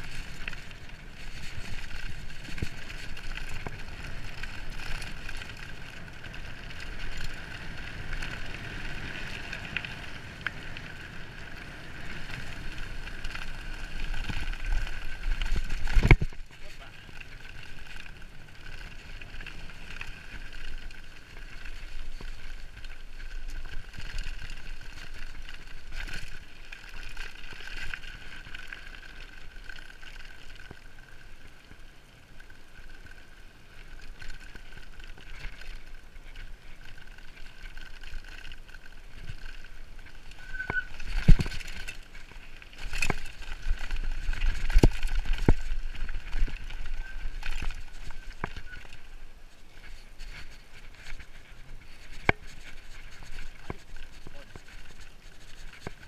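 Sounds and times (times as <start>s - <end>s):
bike tyres rolling on dirt: 0.0s - 56.0s.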